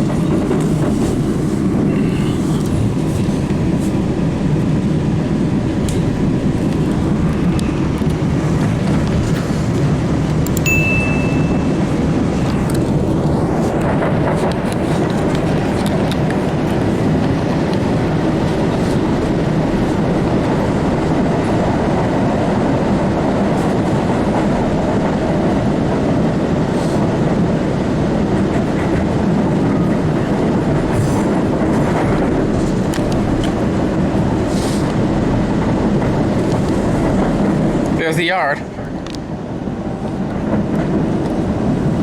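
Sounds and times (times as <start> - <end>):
clickety-clack of track: 0.0 - 42.0
subway car wheels rumbling on rail: 0.0 - 42.0.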